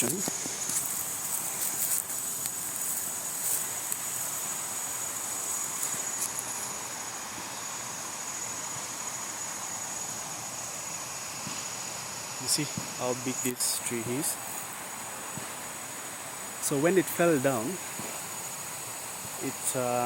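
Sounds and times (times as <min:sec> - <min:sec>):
high-pitched insect chorus: 0:00.0 - 0:20.0
rushing hiss: 0:00.0 - 0:20.0.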